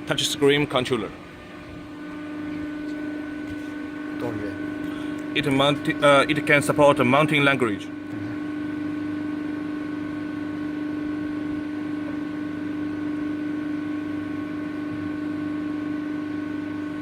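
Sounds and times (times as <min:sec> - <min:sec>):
hydraulic pump humming: 0:00.0 - 0:17.0.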